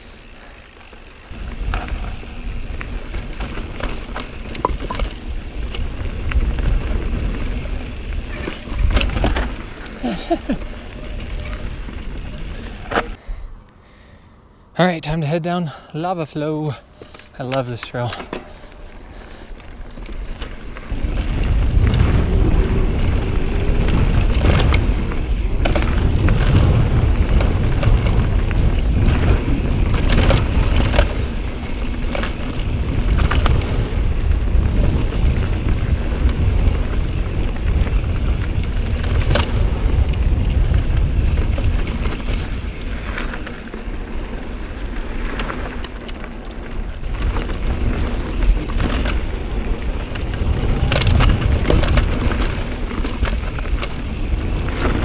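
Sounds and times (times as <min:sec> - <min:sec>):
bike clicks and rattles: 0:00.0 - 0:13.2, 0:16.9 - 0:55.0
tires rumbling on dirt: 0:00.0 - 0:13.2, 0:17.6 - 0:55.0
wind on camera: 0:01.3 - 0:13.2, 0:19.8 - 0:55.0.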